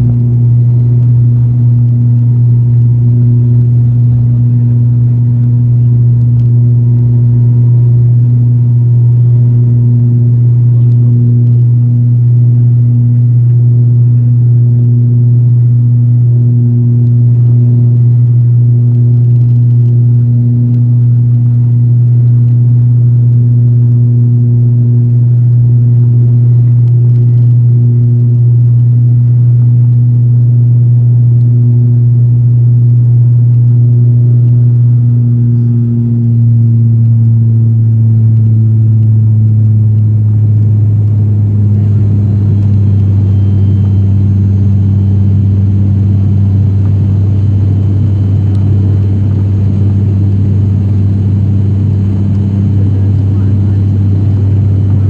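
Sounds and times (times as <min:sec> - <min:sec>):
propeller engine drone in cabin: 0:00.0 - 0:55.0.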